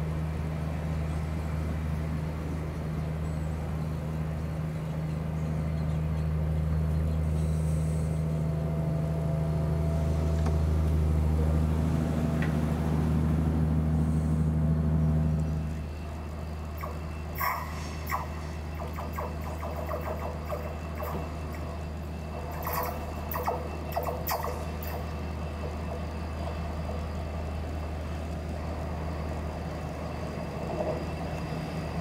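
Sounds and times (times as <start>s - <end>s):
diesel locomotive engine hum: 0.0s - 32.0s
train coaches rumbling past: 0.0s - 32.0s.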